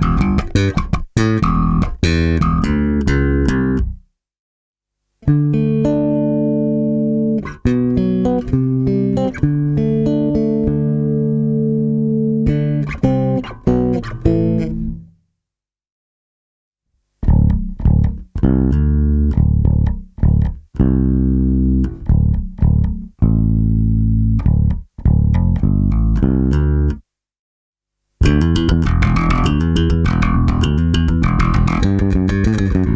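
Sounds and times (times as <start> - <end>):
bass guitar plucked notes: 0.0 - 4.0, 5.2 - 15.1, 17.2 - 27.0, 28.2 - 32.9.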